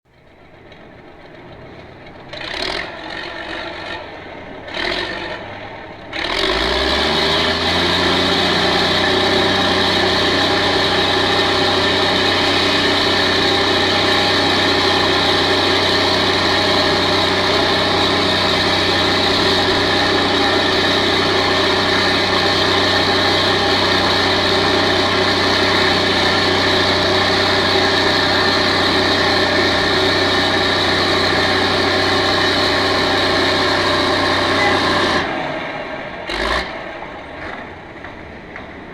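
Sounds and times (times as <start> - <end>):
engine starting and idling: 0.1 - 38.9.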